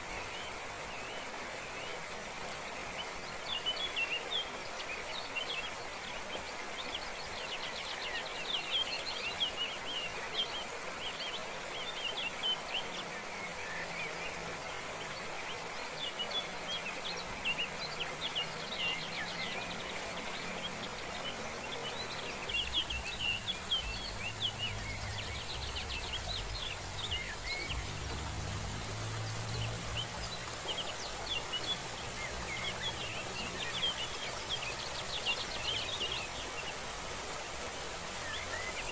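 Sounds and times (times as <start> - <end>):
waterfall rushing: 0.0 - 38.9
small birds chirping: 2.7 - 38.9.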